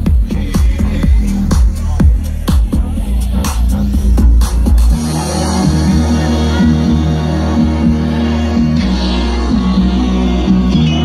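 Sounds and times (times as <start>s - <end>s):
loud dance music with heavy bass: 0.0s - 11.0s.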